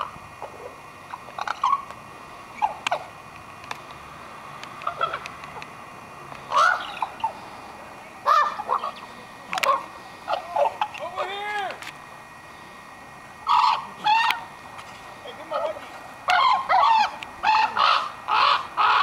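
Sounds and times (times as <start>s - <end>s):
ravens calling: 0.0s - 19.0s.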